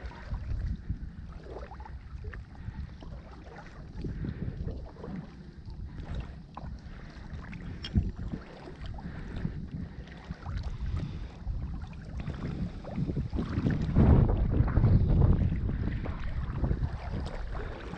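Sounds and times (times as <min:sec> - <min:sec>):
low steady rumble: 0:00.0 - 0:17.9
paddle splashes: 0:00.0 - 0:17.9
water lapping: 0:00.0 - 0:17.9.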